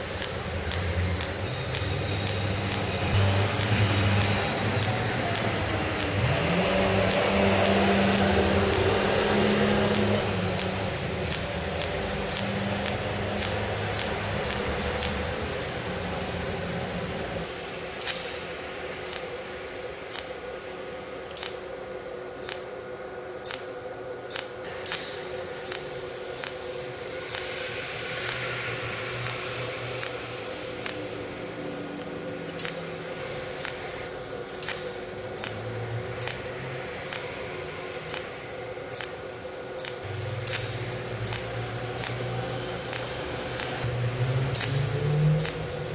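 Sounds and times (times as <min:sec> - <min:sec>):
welding machine snapping clicks: 0:00.0 - 0:15.8, 0:18.0 - 0:20.4, 0:21.3 - 0:21.7, 0:22.4 - 0:22.8, 0:23.4 - 0:23.7, 0:24.3 - 0:26.7, 0:27.3 - 0:28.6, 0:29.2 - 0:31.3, 0:31.9 - 0:43.9, 0:44.5 - 0:45.9
steady electrical hum: 0:00.0 - 0:45.9.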